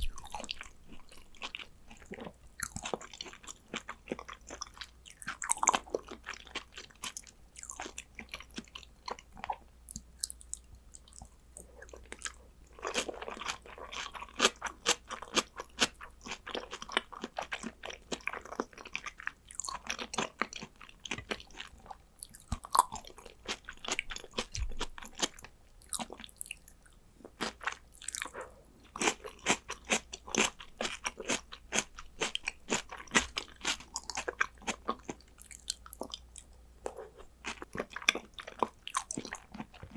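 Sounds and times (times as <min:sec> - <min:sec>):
wet chewing and crunching: 0:00.0 - 0:39.9.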